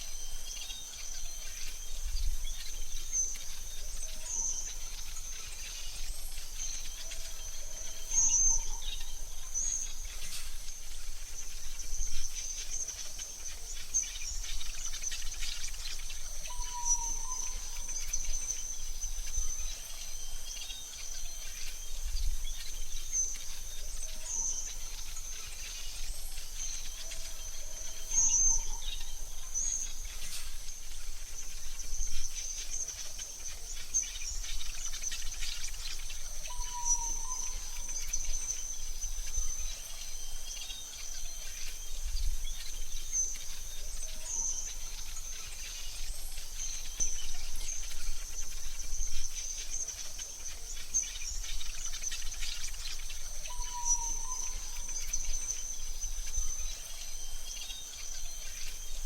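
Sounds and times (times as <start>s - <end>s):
bird chirps: 0.0s - 59.0s
high insect drone: 0.0s - 59.0s.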